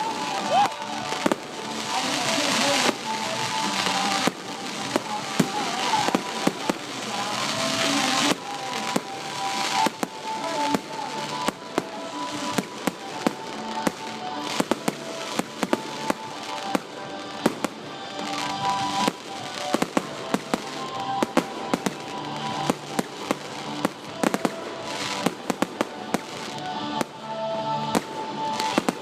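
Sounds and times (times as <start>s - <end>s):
fireworks bangs and pops: 0.0s - 27.2s, 27.9s - 29.0s
music playing: 0.0s - 29.0s.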